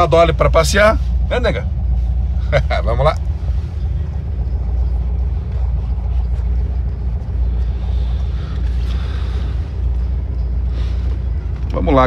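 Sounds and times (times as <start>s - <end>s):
car engine drone: 0.0s - 12.0s
road noise inside car: 0.0s - 12.0s.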